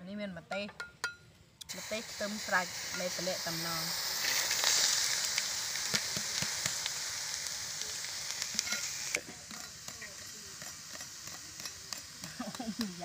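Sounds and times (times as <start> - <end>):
shrimp sizzling in a wok: 1.6 - 13.0.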